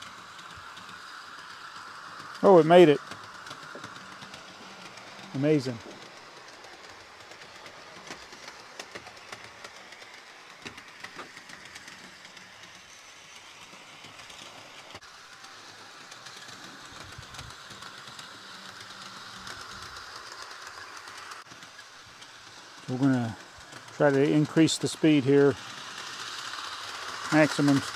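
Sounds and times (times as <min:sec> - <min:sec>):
model train motor whir: 0:00.0 - 0:27.9
wheel clicks over track joints: 0:00.0 - 0:27.9.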